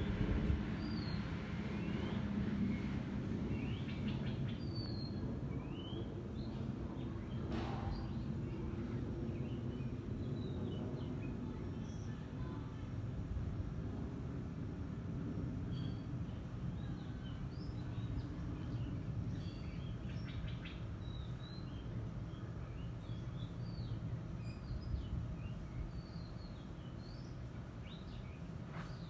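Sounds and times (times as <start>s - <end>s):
small birds chirping: 0.0s - 12.8s, 15.4s - 29.0s
jet engines rumbling: 0.0s - 29.0s.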